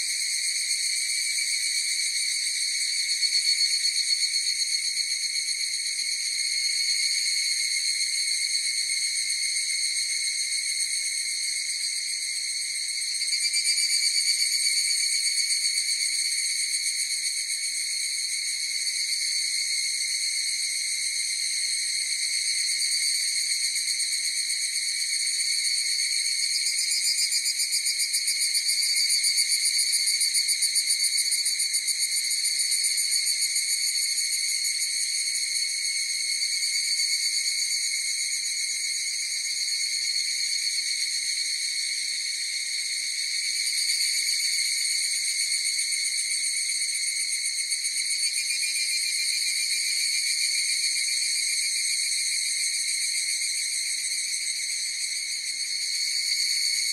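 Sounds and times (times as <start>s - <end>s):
cicadas calling: 11.0s - 56.9s.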